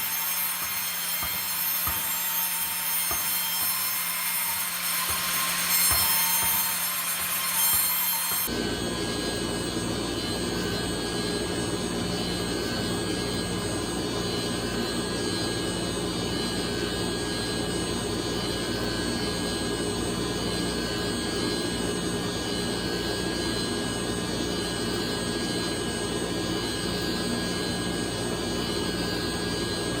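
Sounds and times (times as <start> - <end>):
sawmill machinery drone: 0.0 - 30.0.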